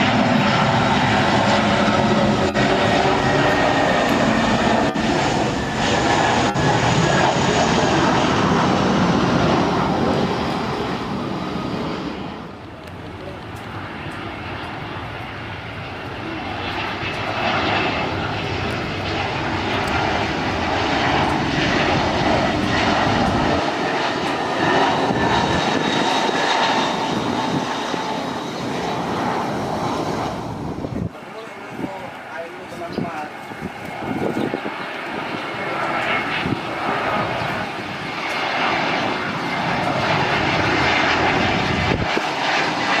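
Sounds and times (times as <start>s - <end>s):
jet engines with high whine: 0.0s - 43.0s.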